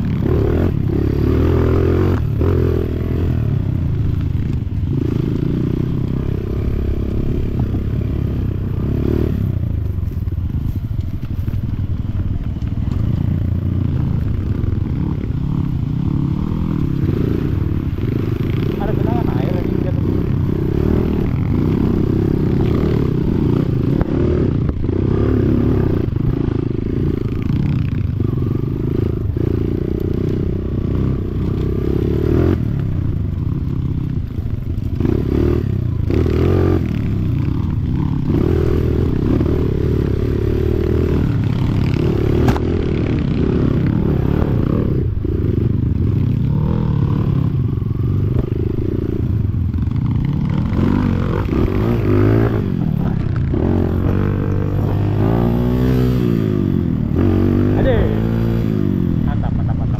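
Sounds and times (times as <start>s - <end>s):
dirt bike engine revving: 0.0s - 9.7s, 12.8s - 59.9s.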